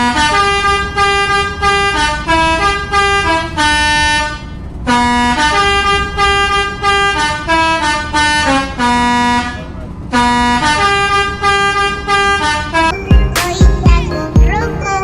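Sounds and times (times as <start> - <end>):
multi-tone bus air horn tune: 0.0 - 13.2.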